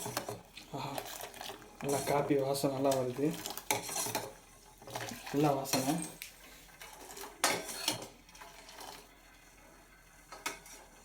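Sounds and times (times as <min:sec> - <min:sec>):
metal spoon scraping a pot: 0:01.0 - 0:09.1, 0:10.3 - 0:11.0.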